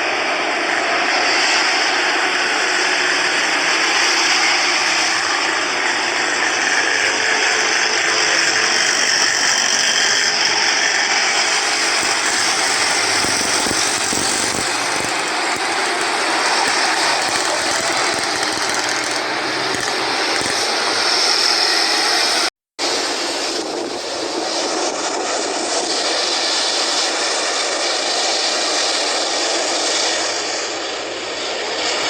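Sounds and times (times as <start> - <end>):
high turbine whine: 0.0 - 32.0
jet engines rushing: 0.0 - 32.0.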